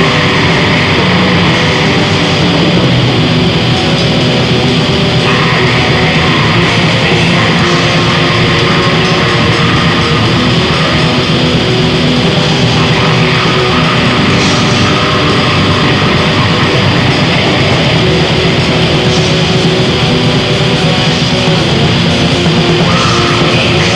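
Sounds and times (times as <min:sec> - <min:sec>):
heavily distorted electric guitar: 0:00.0 - 0:23.9.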